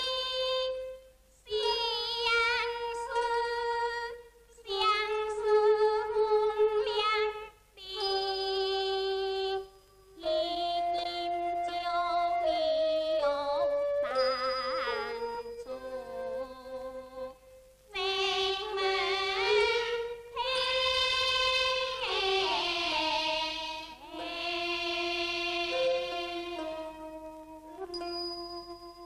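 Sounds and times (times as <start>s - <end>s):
woman singing opera: 0.0s - 27.1s.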